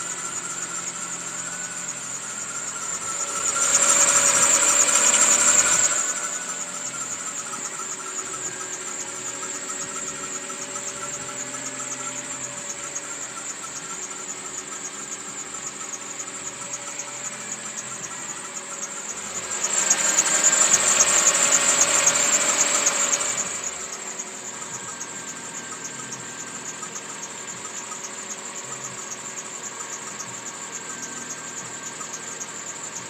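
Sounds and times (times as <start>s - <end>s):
car engine running: 0.0s - 33.0s.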